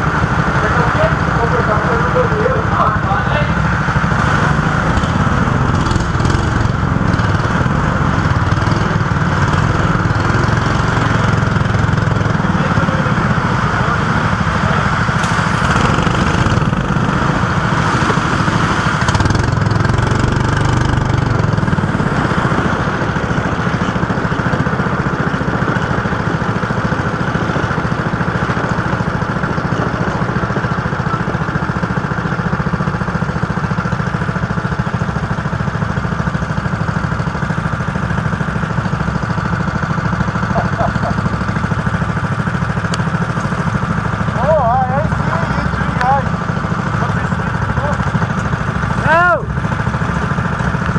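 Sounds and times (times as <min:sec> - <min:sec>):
go-kart engine running: 0:00.0 - 0:50.9.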